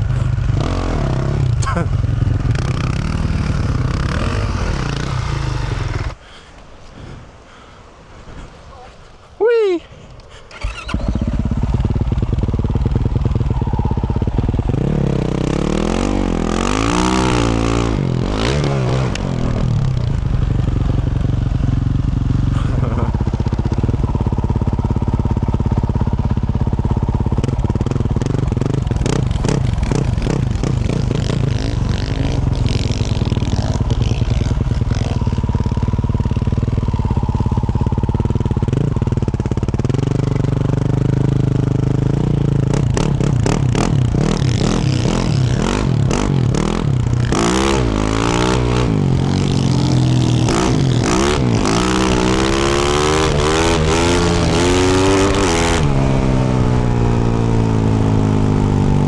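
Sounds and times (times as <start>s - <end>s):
motorcycle engine revving: 0.0s - 6.2s, 10.5s - 59.0s.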